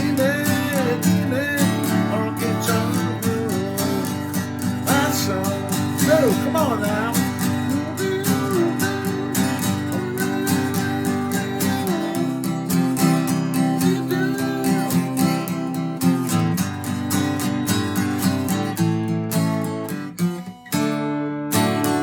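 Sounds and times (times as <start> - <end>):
sliding lead guitar line: 0.0 - 19.7
acoustic guitar strumming: 0.0 - 22.0.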